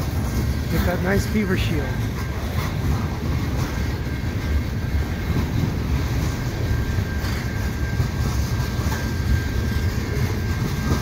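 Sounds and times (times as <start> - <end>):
steel wheels rumbling on rails: 0.0 - 11.0.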